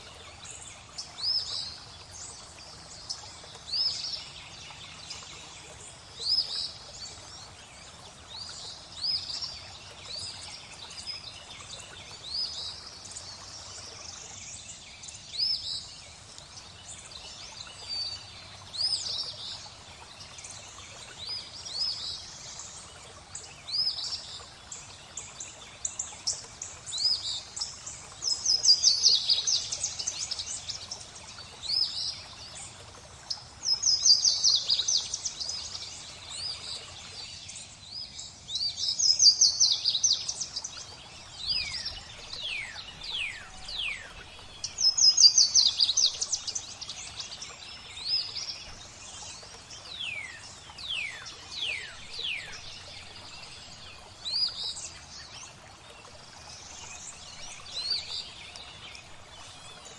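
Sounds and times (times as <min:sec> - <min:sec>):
flowing water: 0:00.0 - 0:59.9
songbirds chirping: 0:00.0 - 0:59.9.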